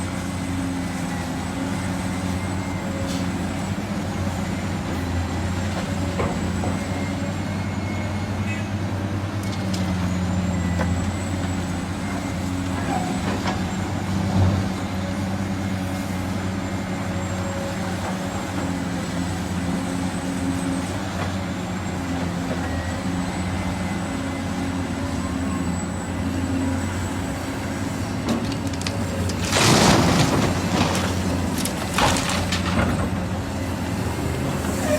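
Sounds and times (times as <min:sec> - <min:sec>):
diesel machinery engines droning: 0:00.0 - 0:34.9.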